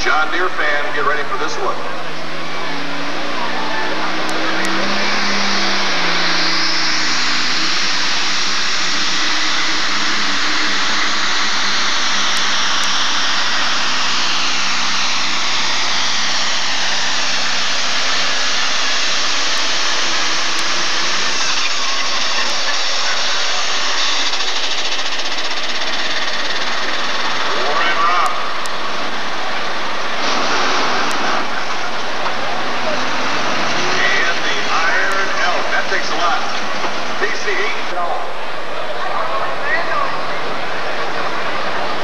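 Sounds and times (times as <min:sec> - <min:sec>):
pulling tractor engine roaring: 0:00.0 - 0:42.0.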